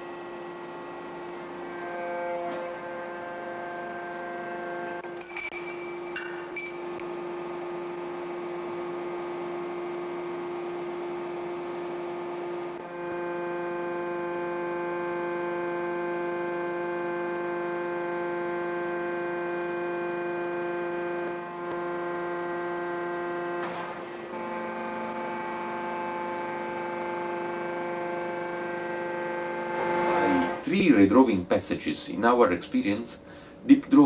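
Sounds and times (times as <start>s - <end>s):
hydraulic press humming: 0.0s - 31.0s.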